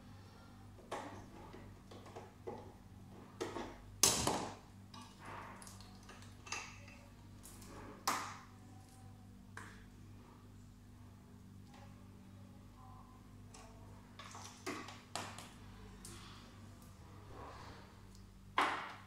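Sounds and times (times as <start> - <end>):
low machine hum: 0.0 - 4.0, 4.6 - 14.2, 15.0 - 18.6.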